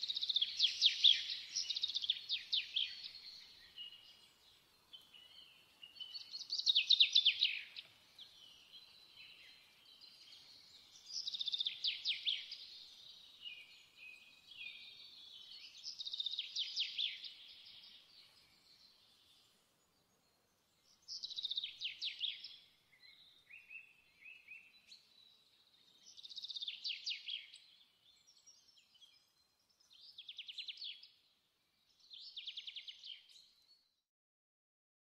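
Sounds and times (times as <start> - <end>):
soft bird chirps: 0.0 - 34.0.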